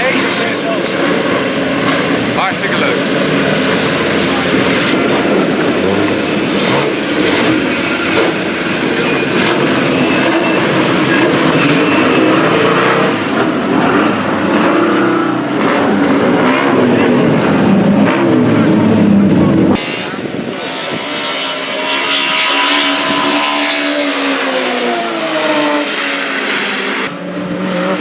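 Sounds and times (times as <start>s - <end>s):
racecar engine revving: 0.0s - 28.0s.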